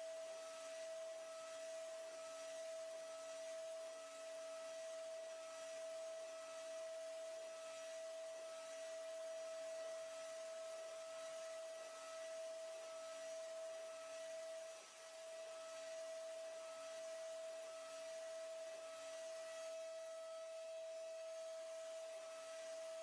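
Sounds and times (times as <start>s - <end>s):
milling machine spindle whine: 0.0s - 23.0s.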